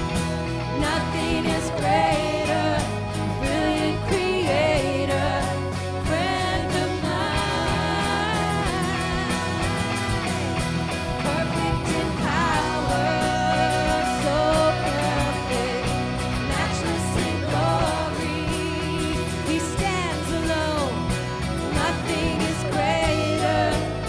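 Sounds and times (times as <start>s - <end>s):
acoustic guitar: 0.0s - 24.0s
electric guitar: 0.0s - 24.0s
keyboard: 0.0s - 24.0s
woman singing lead: 0.0s - 24.0s.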